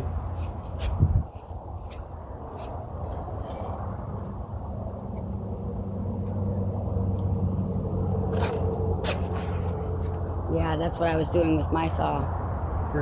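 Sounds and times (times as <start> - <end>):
insects buzzing: 0.0 - 13.0
low mechanical hum: 0.0 - 13.0.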